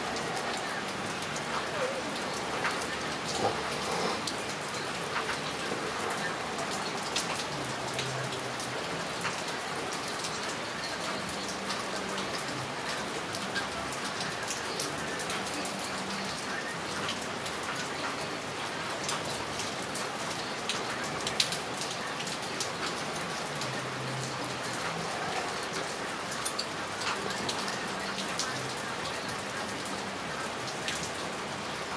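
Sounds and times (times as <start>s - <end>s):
heavy rain falling: 0.0s - 31.9s
raindrops ticking on hard surfaces: 0.0s - 31.9s.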